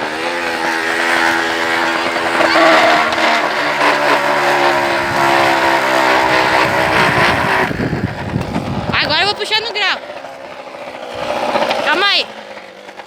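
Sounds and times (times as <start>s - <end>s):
plastic bottle buzzing on bicycle tyre: 0.0s - 13.0s.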